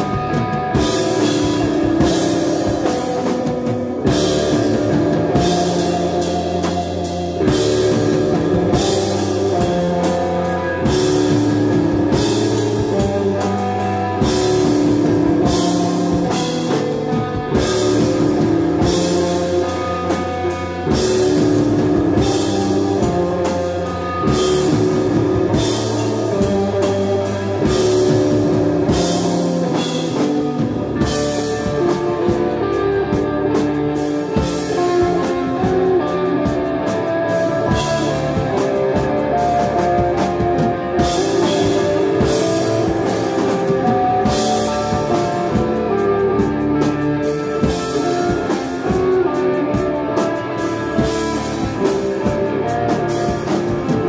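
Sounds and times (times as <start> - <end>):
electric guitar melody: 0.0 - 54.0
live rock band playing: 0.0 - 54.0.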